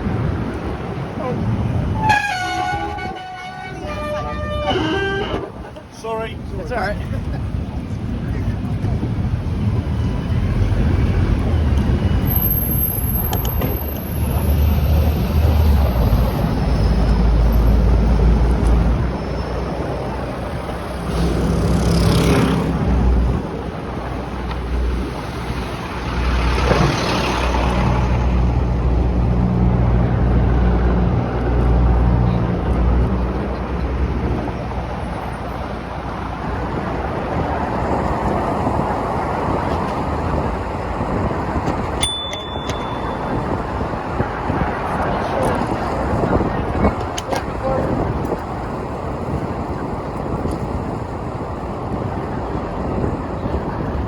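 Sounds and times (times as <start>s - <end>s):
traffic low rumble: 0.0s - 54.0s
vehicles passing by: 0.0s - 54.0s.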